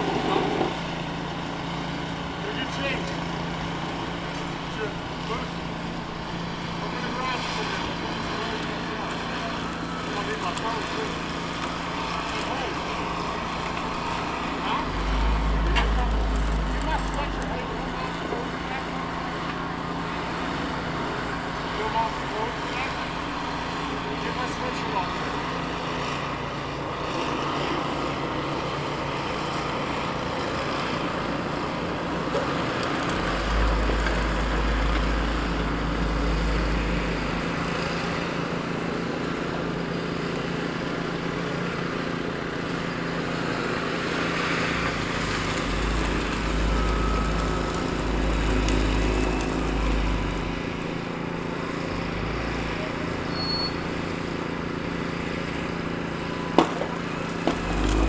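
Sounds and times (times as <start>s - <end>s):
truck engine rumbling: 0.0s - 58.0s.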